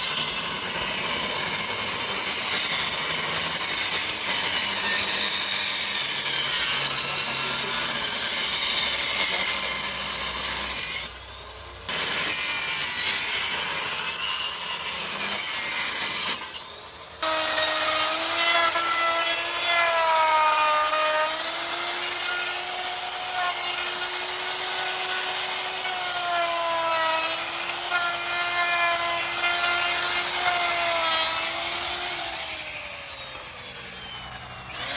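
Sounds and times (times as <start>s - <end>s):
angle grinder grinding wood: 0.0s - 34.9s.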